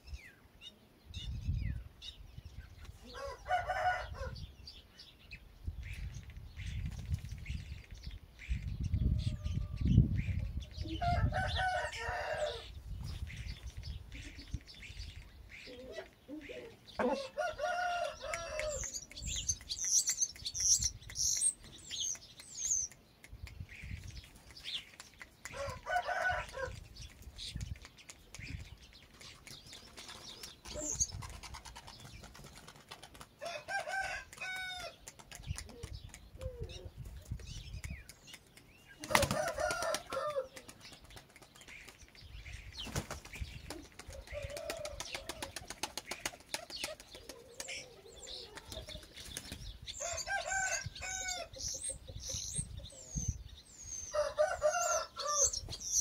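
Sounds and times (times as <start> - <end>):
chickens calling: 8.9 - 56.0.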